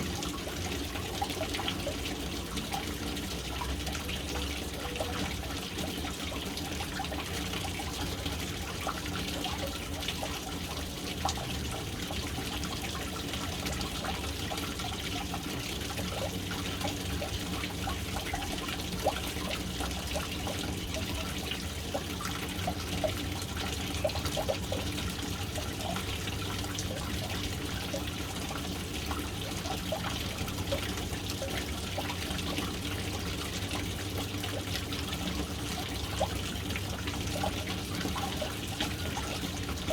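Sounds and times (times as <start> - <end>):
water drips and plops: 0.0 - 39.9
water splashing into a tank: 0.0 - 39.9.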